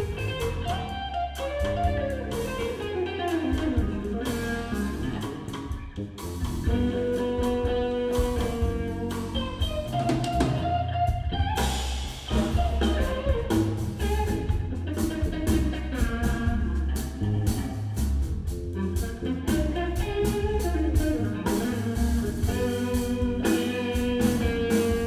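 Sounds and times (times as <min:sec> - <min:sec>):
drum kit: 0:00.0 - 0:25.0
electric bass: 0:00.0 - 0:25.0
electric guitar lead: 0:00.0 - 0:25.0.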